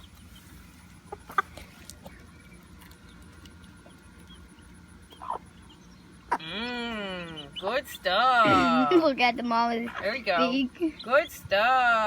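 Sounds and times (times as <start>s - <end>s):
chickens clucking: 0.0s - 11.9s.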